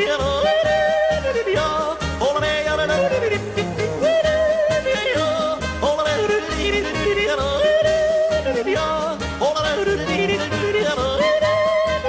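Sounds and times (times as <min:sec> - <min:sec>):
rhythmic bass accompaniment: 0:00.0 - 0:12.0
song with yodeling voice: 0:00.0 - 0:12.0.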